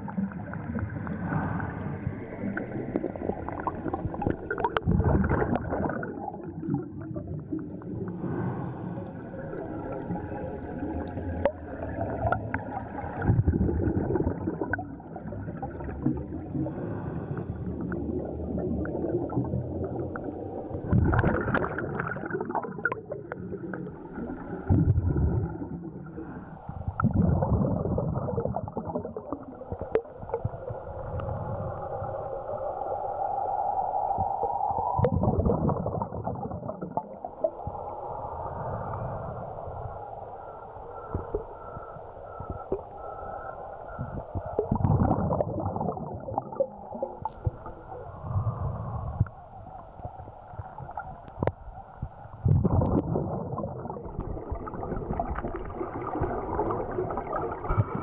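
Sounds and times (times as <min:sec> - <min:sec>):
regulator bubbles gurgling: 0:00.0 - 0:33.4, 0:34.1 - 0:58.0.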